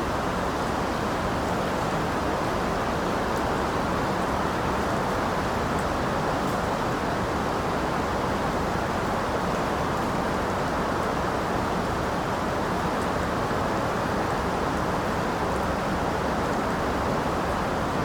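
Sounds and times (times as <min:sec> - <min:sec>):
steady rain falling: 0:00.1 - 0:18.0.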